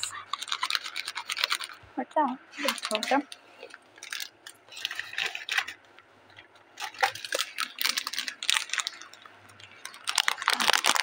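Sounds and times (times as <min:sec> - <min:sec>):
plastic wrappers crinkling: 0:00.0 - 0:01.8, 0:02.5 - 0:11.0.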